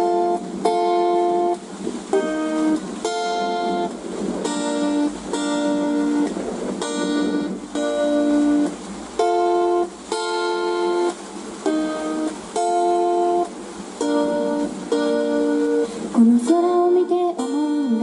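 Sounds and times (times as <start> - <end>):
guitar chords: 0.0 - 18.0.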